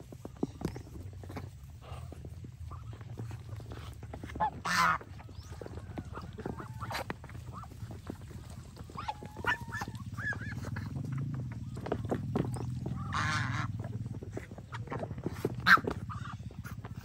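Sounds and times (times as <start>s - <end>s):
geese and ducks calling: 0.2s - 17.0s.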